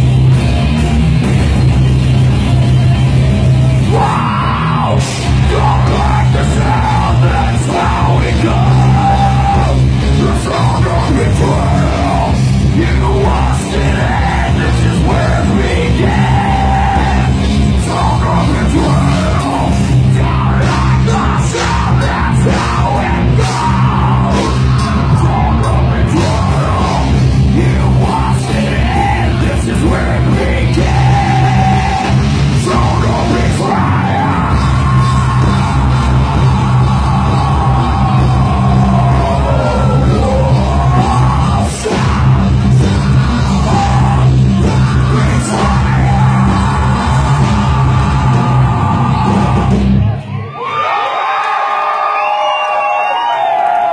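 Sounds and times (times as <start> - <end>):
metal band playing live: 0.0 - 50.5
harsh yelled vocals: 2.8 - 53.9.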